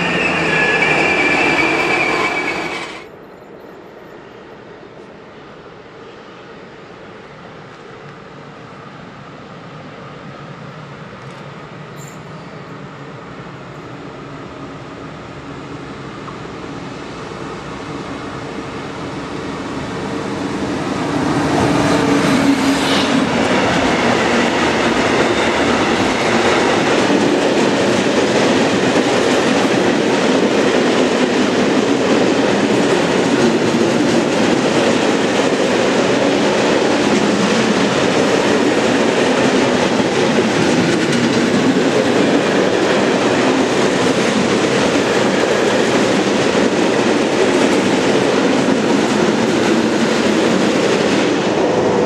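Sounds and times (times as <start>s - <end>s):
freight train wheels rolling on rails: 0.0s - 52.0s.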